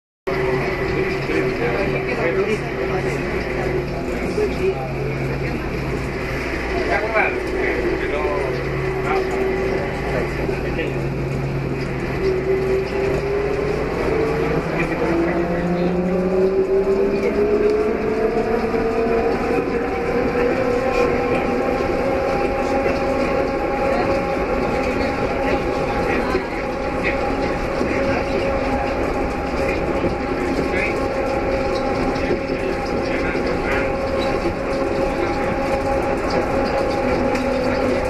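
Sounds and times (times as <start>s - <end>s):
train rolling noise: 0.3s - 38.0s.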